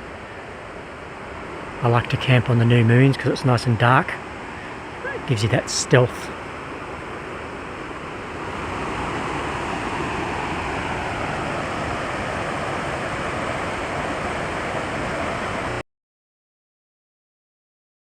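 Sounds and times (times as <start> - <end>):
wind blowing: 0.0 - 15.8.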